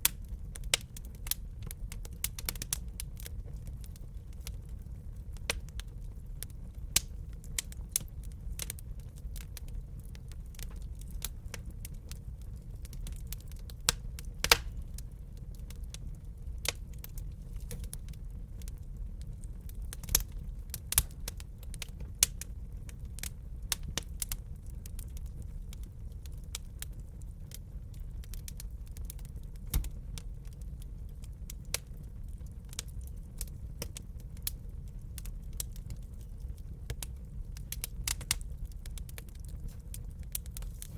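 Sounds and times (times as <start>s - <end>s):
fire popping and snapping: 0.0s - 40.9s
low fire rumble: 0.0s - 40.9s.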